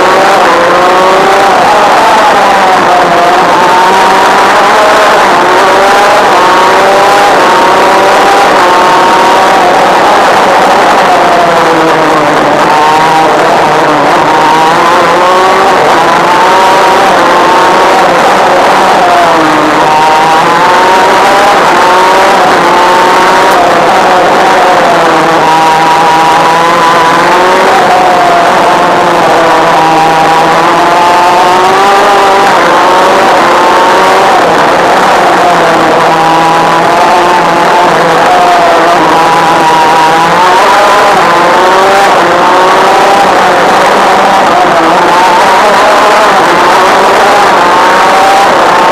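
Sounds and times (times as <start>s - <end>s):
kart engine accelerating: 0.0s - 48.9s.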